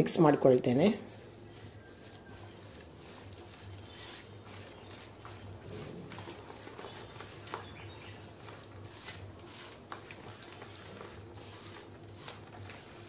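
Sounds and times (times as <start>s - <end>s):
hand squelching marinade in bowl: 1.0s - 13.0s.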